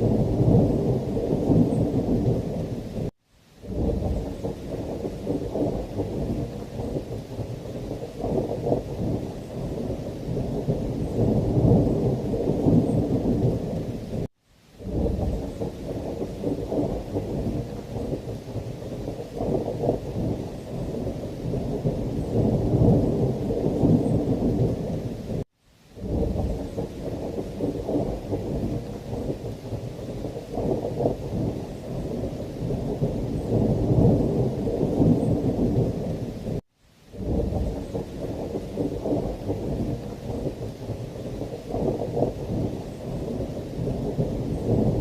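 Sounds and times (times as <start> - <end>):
rolling thunder: 0.0 - 25.4, 26.0 - 36.6, 37.2 - 45.0
heavy rain: 0.0 - 45.0.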